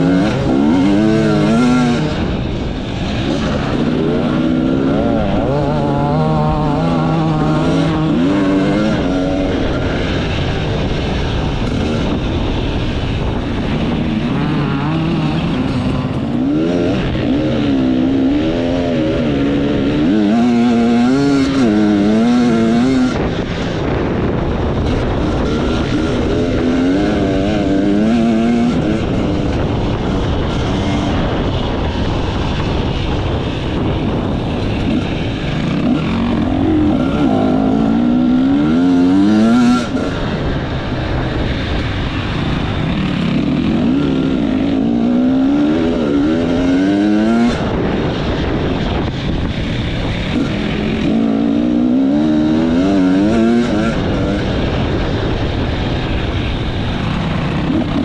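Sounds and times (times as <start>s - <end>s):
motorcycle engine revving: 0.0s - 58.0s
wind rush and riding noise: 0.0s - 58.0s.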